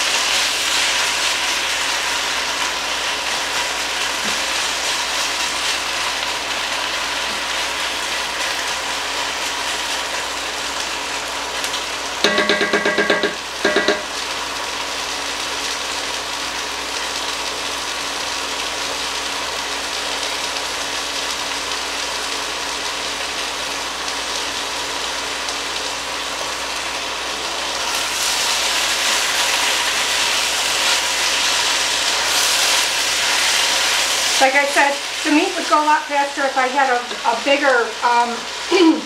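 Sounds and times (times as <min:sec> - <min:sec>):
beef sizzling in oil: 0:00.0 - 0:12.3, 0:13.3 - 0:39.0.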